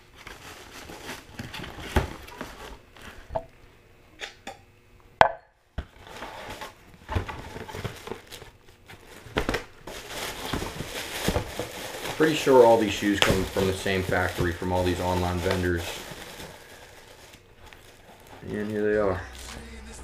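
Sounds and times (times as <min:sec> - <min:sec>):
plastic bag rustling: 0:00.0 - 0:03.3, 0:06.0 - 0:20.0.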